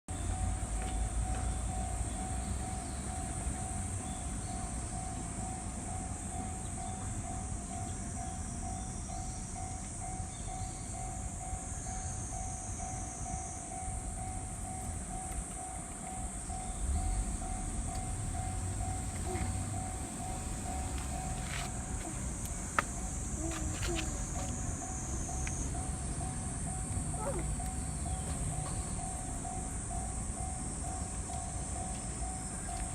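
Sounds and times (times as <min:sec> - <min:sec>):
level crossing warning bell: 0:00.1 - 0:32.9
passing train rumble: 0:00.1 - 0:32.9.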